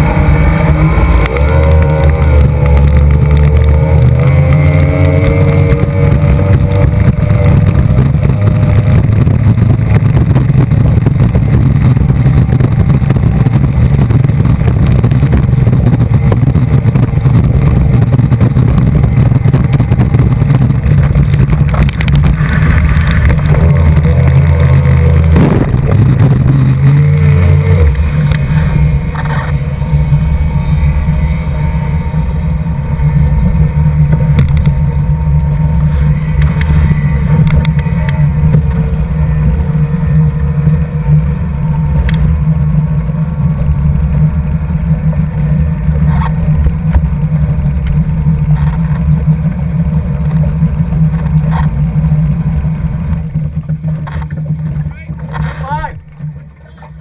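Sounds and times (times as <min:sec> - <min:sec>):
outboard engine running hard: 0:00.0 - 0:57.0
wind: 0:00.0 - 0:57.0.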